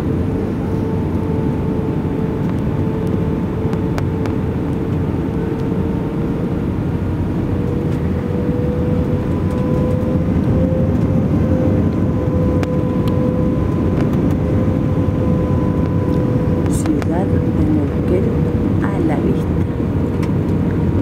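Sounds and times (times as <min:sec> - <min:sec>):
cabin air rush and engine drone: 0:00.0 - 0:21.0.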